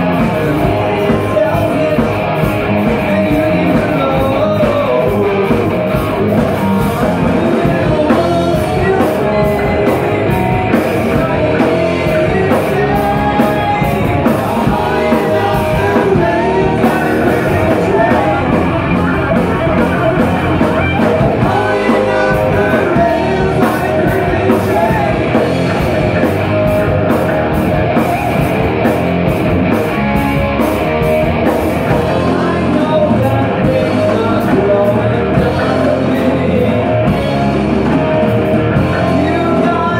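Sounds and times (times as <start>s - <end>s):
man singing: 0.0s - 26.3s, 31.9s - 39.9s
bass guitar: 0.0s - 39.9s
drum kit: 0.0s - 39.9s
electric guitar: 0.0s - 39.9s.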